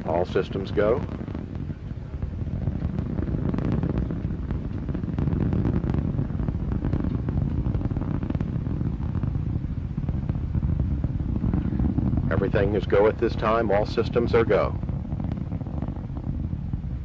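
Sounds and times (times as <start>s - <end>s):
deep rocket roar with crackle: 0.0s - 17.0s.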